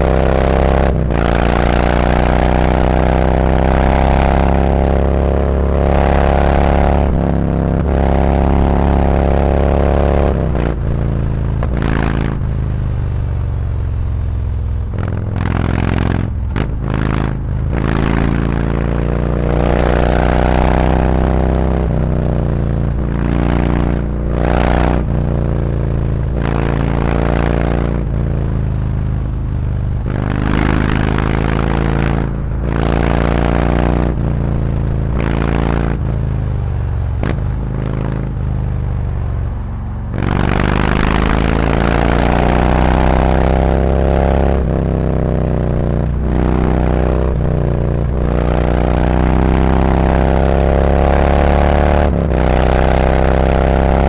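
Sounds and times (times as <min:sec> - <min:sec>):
motorcycle accelerating through gears: 0:00.0 - 0:54.0.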